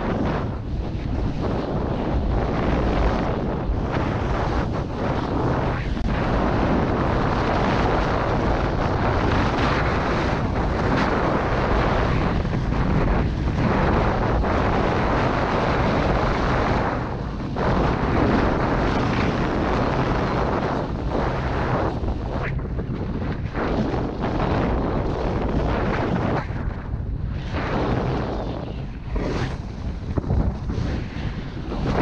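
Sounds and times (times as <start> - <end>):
snowboard scraping over snow: 0.0 - 32.0
wind rushing over microphone: 0.0 - 32.0.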